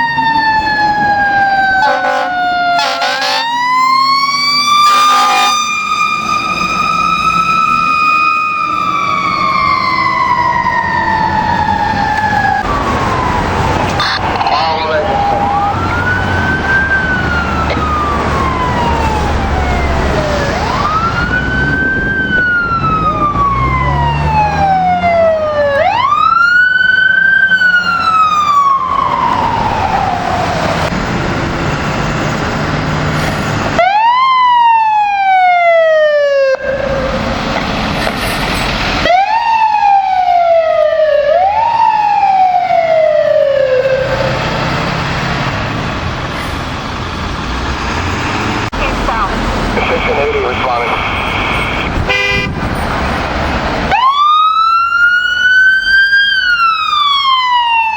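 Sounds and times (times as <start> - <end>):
truck engine rumbling: 0.0 - 57.9.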